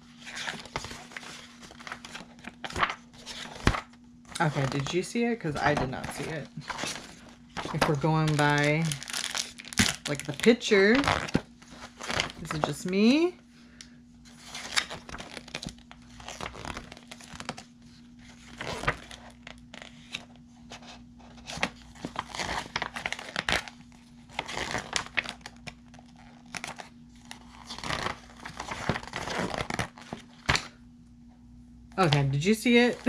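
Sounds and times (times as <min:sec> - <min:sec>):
glossy paper pages rustling: 0:00.0 - 0:13.3, 0:14.2 - 0:30.8.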